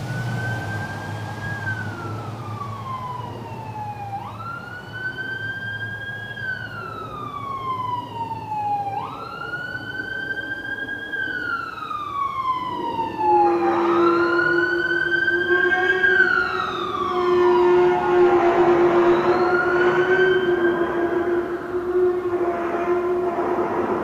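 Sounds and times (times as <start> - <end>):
emergency vehicle siren wailing: 0.0 - 24.0.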